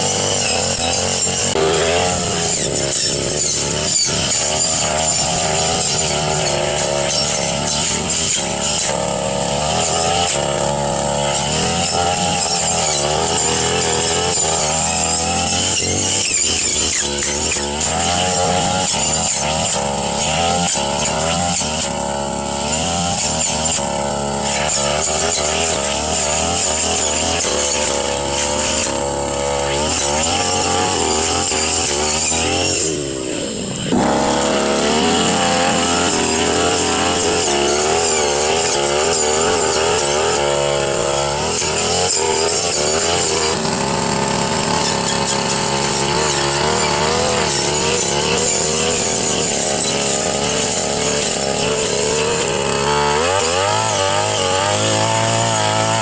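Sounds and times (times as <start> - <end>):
brush cutter engine: 0.0 - 56.0.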